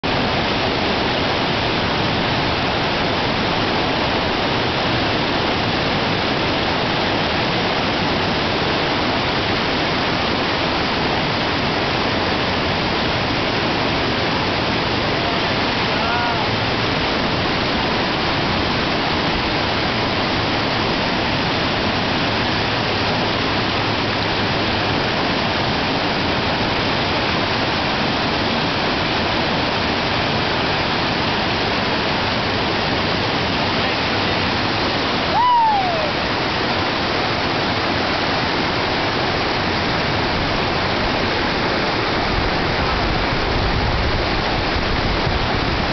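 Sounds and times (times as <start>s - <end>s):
river rapid rushing: 0.0s - 45.9s.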